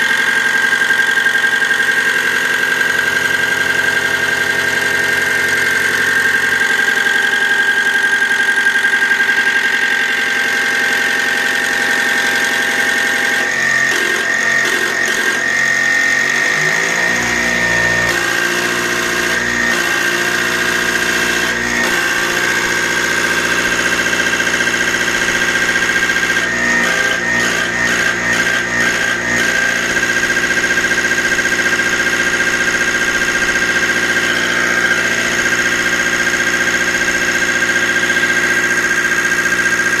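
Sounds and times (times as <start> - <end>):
machine whine: 0.0 - 40.0.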